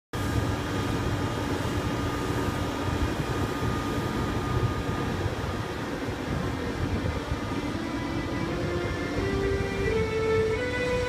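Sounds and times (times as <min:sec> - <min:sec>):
electric locomotive hum: 0:00.2 - 0:11.0
high whine: 0:00.2 - 0:11.0.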